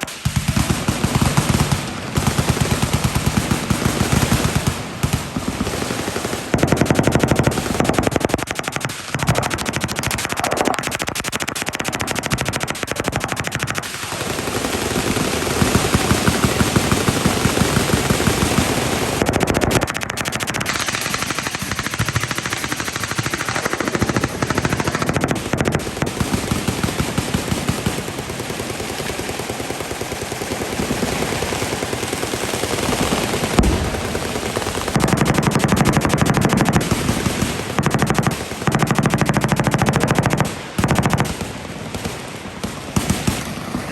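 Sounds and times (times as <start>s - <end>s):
machine guns firing full-auto: 0.0s - 43.9s.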